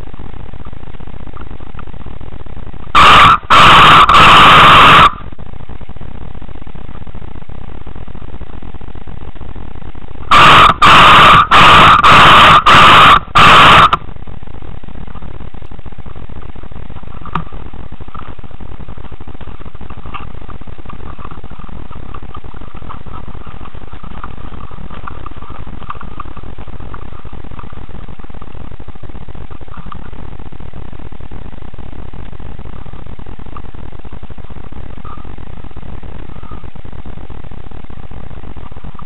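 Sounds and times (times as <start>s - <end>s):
steady rumbling noise: 0.0s - 39.0s.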